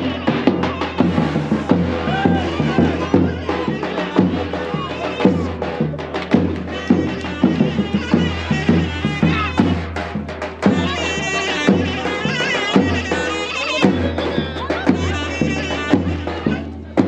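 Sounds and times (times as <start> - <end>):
drum beats: 0.0 - 17.0
wind instrument melody: 0.0 - 17.0.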